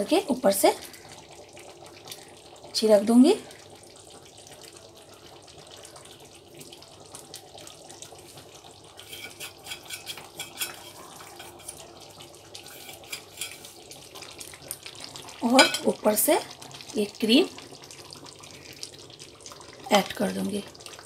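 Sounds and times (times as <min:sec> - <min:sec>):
thick curry bubbling and popping: 0:00.8 - 0:02.8, 0:03.6 - 0:21.0.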